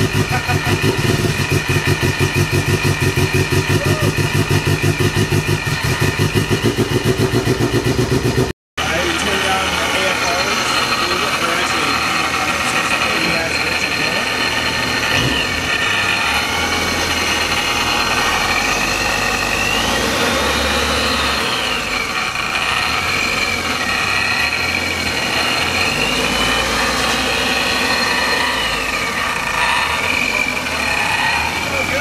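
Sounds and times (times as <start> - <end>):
car engine running roughly: 0.0 - 32.0
supercharger whine: 0.0 - 32.0.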